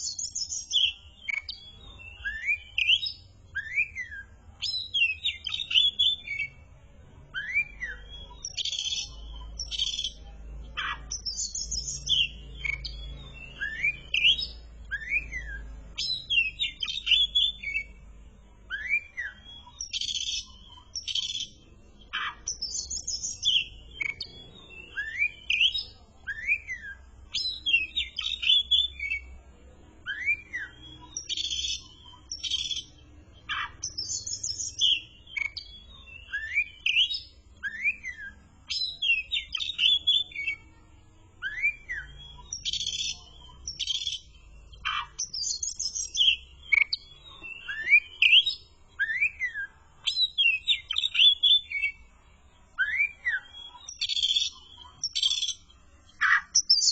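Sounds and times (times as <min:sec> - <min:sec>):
songbird whistling and chirping: 0:00.0 - 0:06.7, 0:07.3 - 0:29.4, 0:30.0 - 0:40.8, 0:41.4 - 0:56.9.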